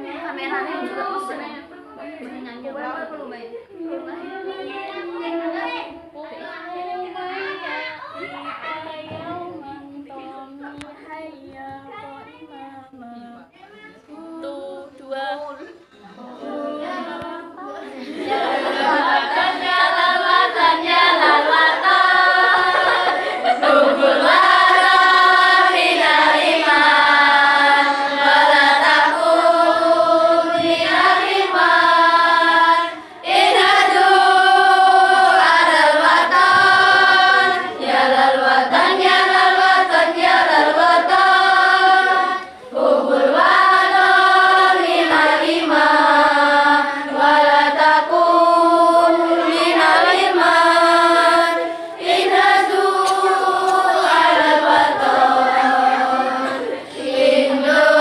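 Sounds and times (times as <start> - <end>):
girls singing without instruments: 3.6 - 58.0.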